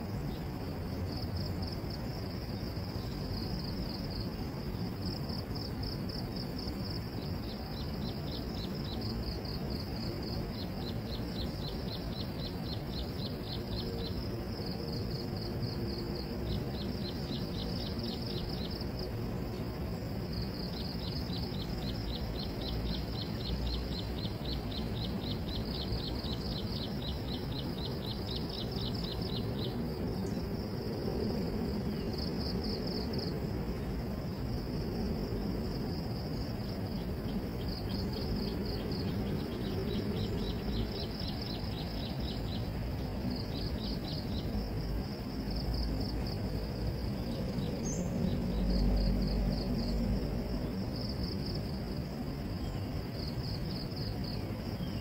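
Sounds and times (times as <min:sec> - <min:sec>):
insects trilling: 0:00.0 - 0:55.0
low background noise: 0:00.0 - 0:55.0.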